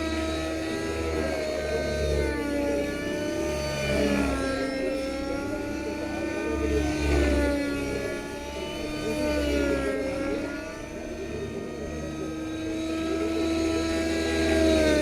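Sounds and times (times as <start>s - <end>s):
model helicopter engine and rotor whining: 0.0s - 15.0s.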